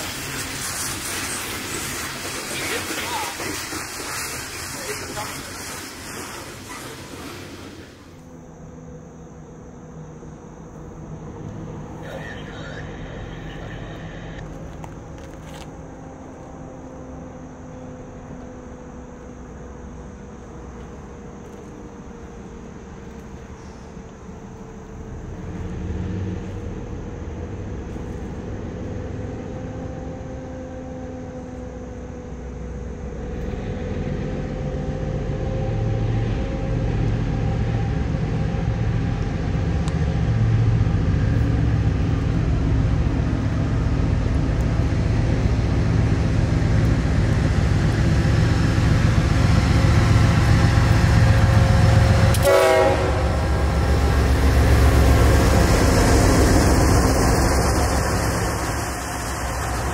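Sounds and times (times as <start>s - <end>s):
diesel locomotive engine rumble: 0.0s - 59.9s
steady whine tones: 0.0s - 59.9s.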